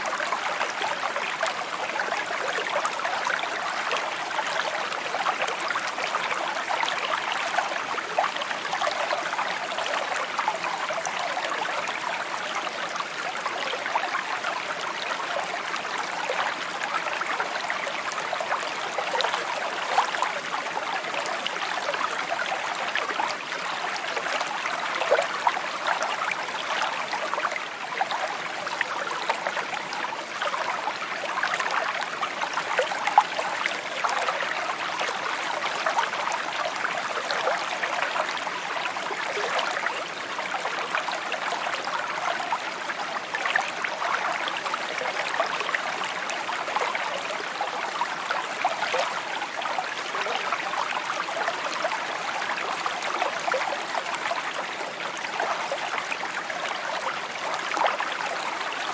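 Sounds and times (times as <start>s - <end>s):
stream trickling over stones: 0.0s - 58.9s.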